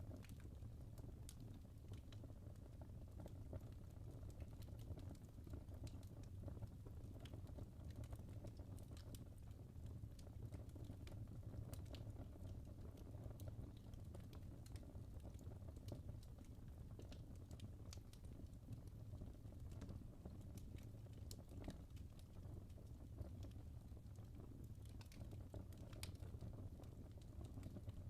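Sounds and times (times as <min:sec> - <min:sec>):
log fire crackling: 0:00.0 - 0:28.0.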